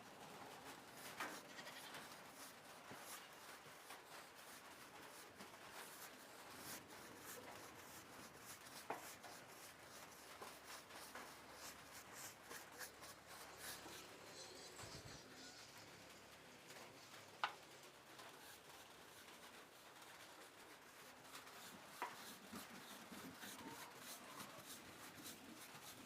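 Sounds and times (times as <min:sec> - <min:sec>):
paintbrush brushing on wood: 0:00.3 - 0:15.7, 0:16.7 - 0:26.0.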